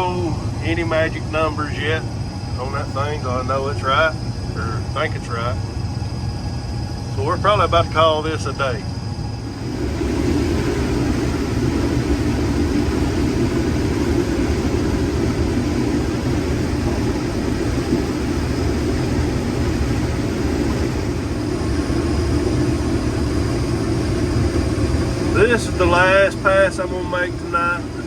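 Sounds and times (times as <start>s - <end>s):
combine harvester droning: 0.0s - 28.0s.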